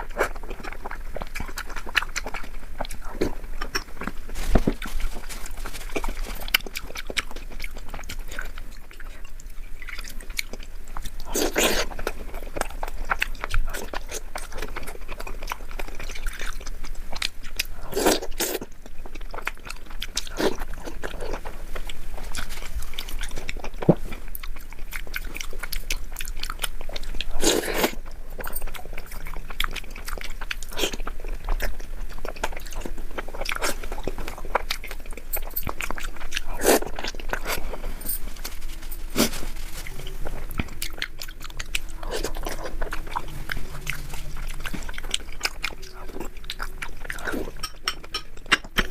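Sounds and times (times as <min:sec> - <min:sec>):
chewing with wet mouth clicks: 0:00.0 - 0:04.2, 0:05.8 - 0:38.6, 0:39.2 - 0:48.9.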